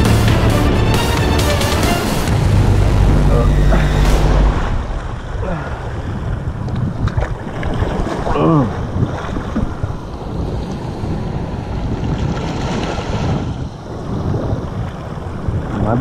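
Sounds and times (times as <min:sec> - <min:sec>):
wind buffeting microphone: 0:02.3 - 0:16.0.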